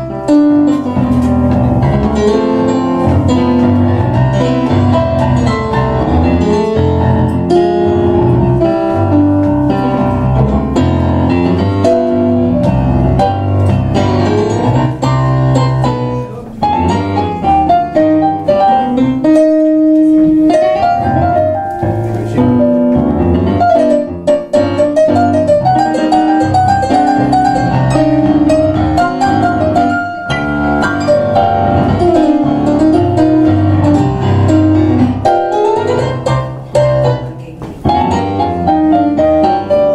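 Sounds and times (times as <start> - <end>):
piano duet playing a tango: 0.0 - 39.9.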